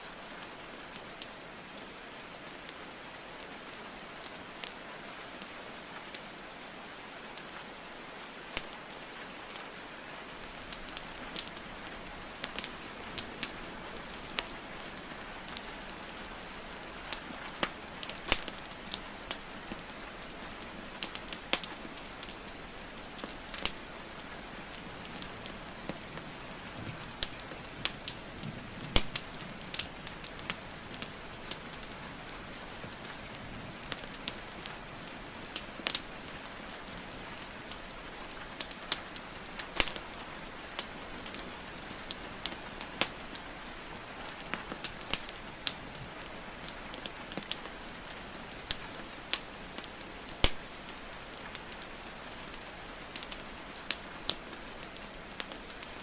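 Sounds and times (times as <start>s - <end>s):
rainfall hiss: 0.0s - 56.0s
wood fire crackling and popping: 3.5s - 4.8s, 8.5s - 56.0s.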